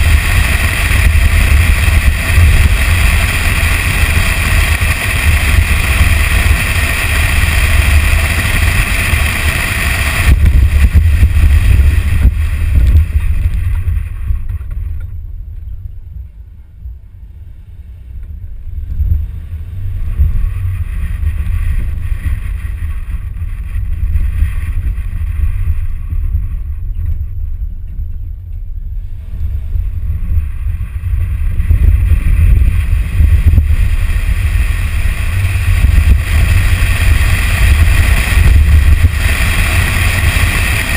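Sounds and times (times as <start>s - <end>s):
wind on microphone: 0.0s - 17.0s, 17.6s - 40.9s
engine and tyre noise: 0.0s - 40.9s.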